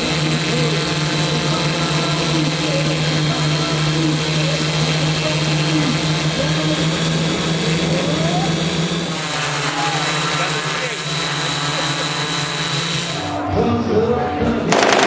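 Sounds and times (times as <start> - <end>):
drone motors droning hum: 0.0 - 13.4.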